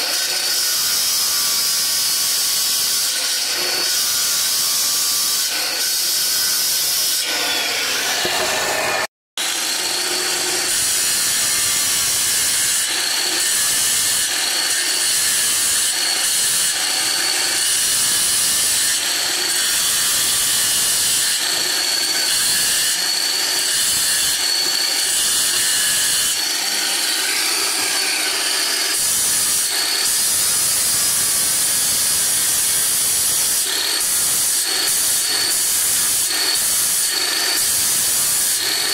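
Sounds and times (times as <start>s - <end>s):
stone cutting saw whining and grinding: 0.0s - 38.9s.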